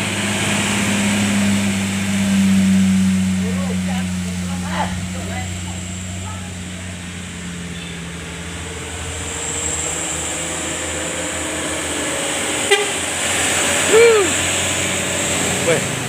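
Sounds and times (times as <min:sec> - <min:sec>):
heavy vehicle engines passing: 0:00.0 - 0:16.0
rising and falling pitched sound: 0:00.0 - 0:16.0.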